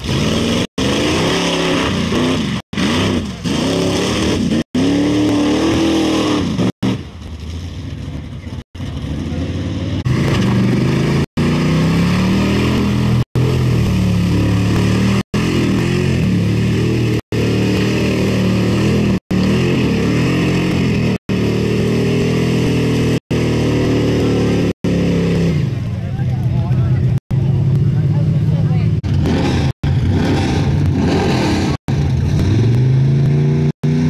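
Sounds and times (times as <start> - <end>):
truck engine revving: 0.0 - 34.0
tyres churning through mud: 0.0 - 34.0.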